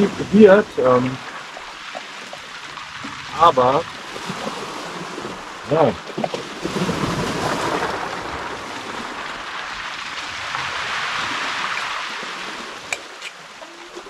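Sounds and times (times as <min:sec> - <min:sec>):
sea waves washing in: 0:00.0 - 0:14.0.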